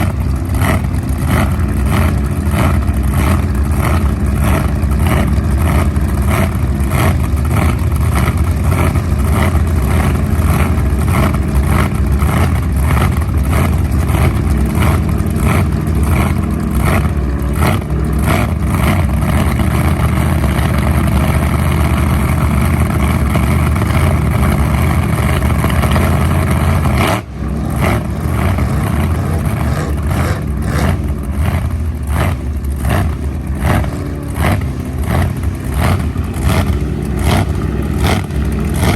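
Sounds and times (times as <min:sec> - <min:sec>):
boat engine revving: 0:00.0 - 0:38.9.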